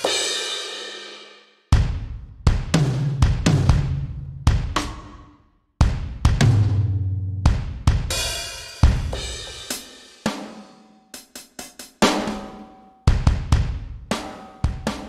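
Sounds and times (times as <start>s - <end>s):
heavy drum and cymbal hits: 0.0s - 5.2s, 5.8s - 15.0s.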